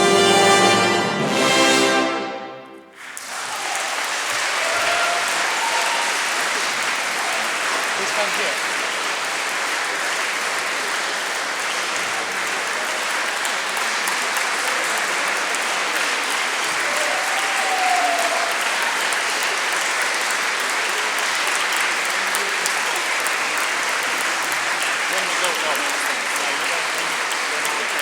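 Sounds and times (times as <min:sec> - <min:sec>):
large audience applauding: 0:00.0 - 0:28.0.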